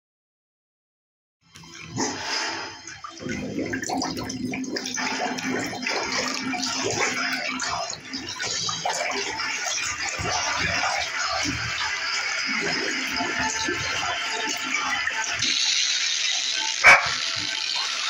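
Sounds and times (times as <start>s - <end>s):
running splashing water: 1.6s - 18.0s.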